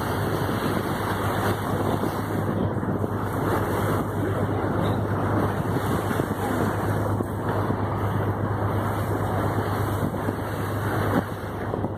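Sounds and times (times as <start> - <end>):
boat motor droning: 0.0 - 11.9
water rushing past hull: 0.0 - 11.9
wind buffeting microphone: 0.0 - 11.9.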